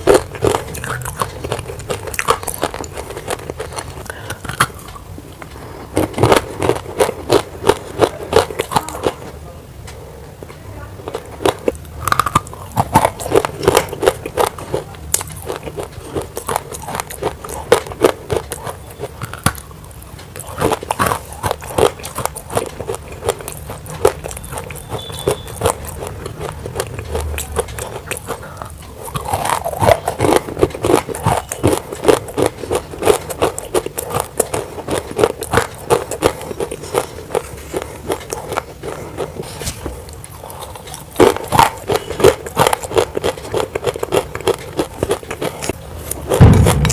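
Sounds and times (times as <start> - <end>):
crunching of clay being chewed: 0.0 - 46.9.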